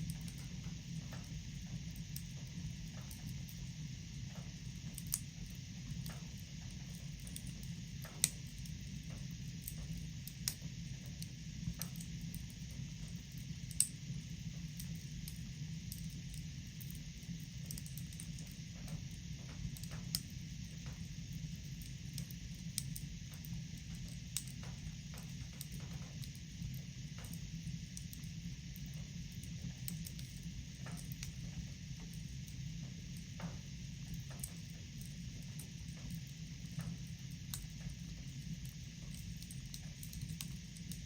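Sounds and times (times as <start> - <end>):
fireplace fire crackling: 0.0 - 41.0.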